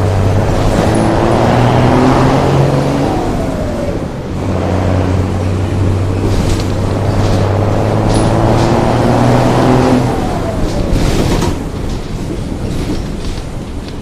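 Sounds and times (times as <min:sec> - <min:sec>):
bus engine running hard: 0:00.0 - 0:14.0.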